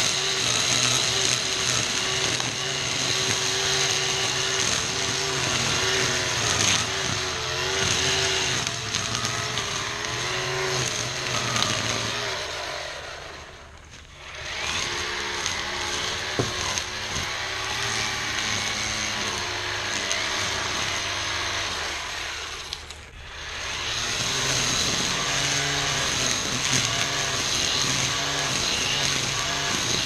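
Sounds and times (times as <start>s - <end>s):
string trimmer cutting weeds: 0.0s - 30.0s.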